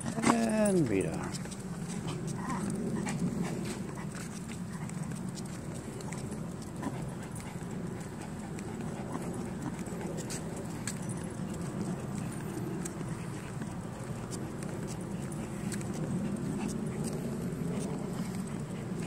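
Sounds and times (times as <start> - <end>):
dog claws ticking on concrete: 0.0 - 19.0.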